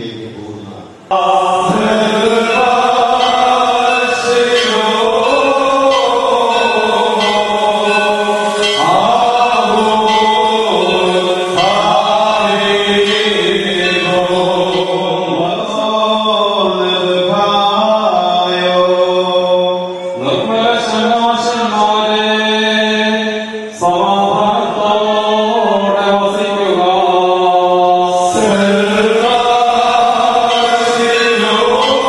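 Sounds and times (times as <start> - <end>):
men chanting a hymn: 0.0 - 32.0.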